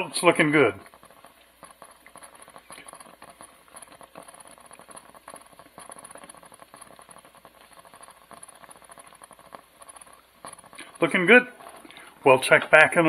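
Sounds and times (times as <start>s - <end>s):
cake mix crackling and ticking: 0.0s - 13.0s.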